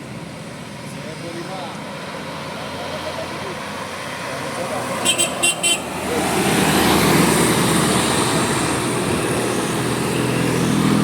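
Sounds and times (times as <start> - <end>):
bus passing close by: 0.0 - 11.0.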